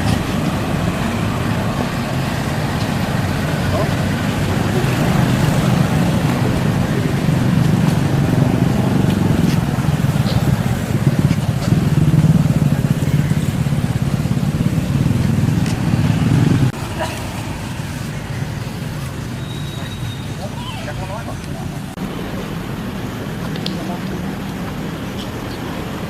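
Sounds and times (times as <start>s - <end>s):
motor engine humming: 0.0s - 26.0s.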